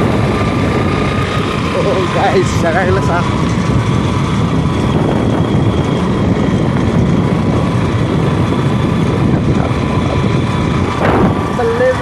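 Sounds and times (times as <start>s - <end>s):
motorcycle engine and road rumble: 0.0s - 12.0s
wind rushing over microphone: 0.0s - 12.0s.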